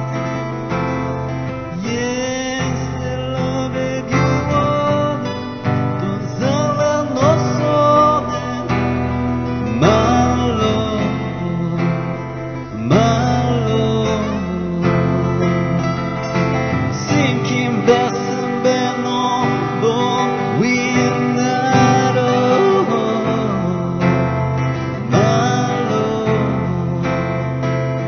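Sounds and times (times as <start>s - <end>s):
sliding melody line: 0.0s - 28.0s
strummed acoustic guitar: 0.0s - 28.0s.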